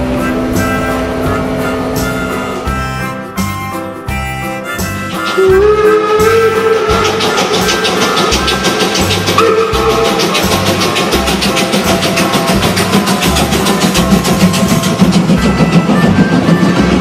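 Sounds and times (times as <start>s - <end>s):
repeating bass line: 0.0s - 17.0s
steady drum beat: 0.0s - 17.0s.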